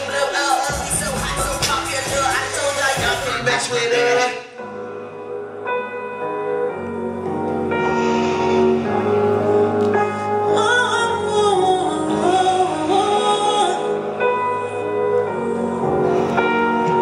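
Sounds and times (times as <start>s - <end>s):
person singing: 0.0s - 4.7s, 7.9s - 17.0s.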